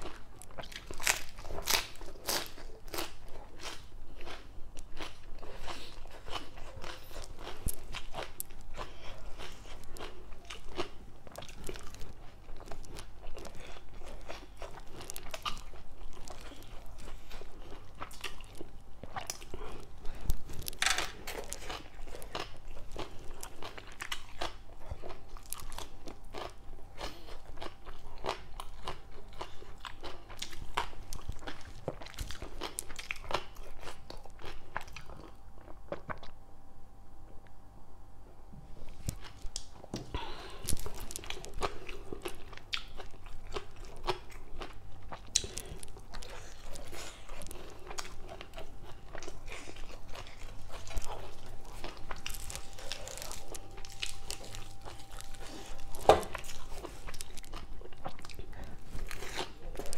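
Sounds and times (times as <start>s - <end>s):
chewing and crunching vegetables: 0.0s - 36.4s, 38.7s - 59.9s.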